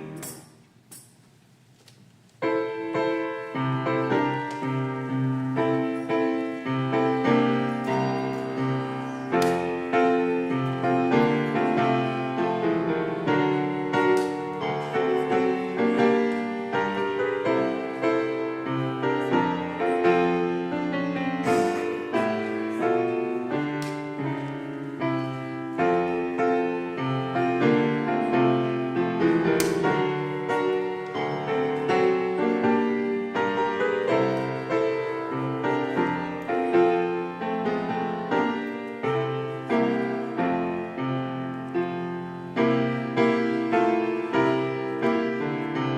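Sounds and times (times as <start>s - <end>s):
piano music: 0.0s - 0.8s, 2.4s - 45.9s.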